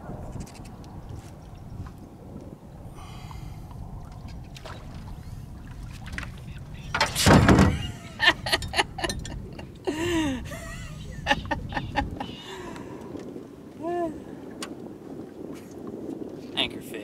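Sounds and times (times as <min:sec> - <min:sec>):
wind and water noise: 0:00.0 - 0:17.0.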